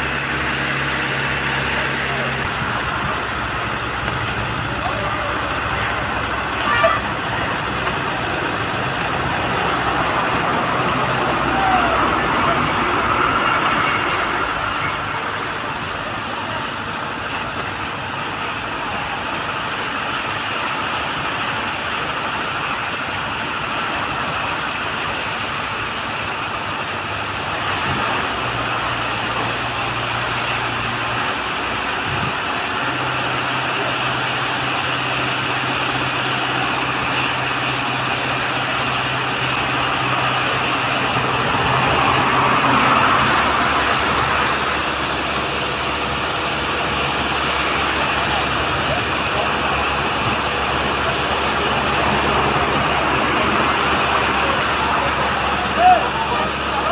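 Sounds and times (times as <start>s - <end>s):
truck diesel engine humming: 0.0s - 56.9s.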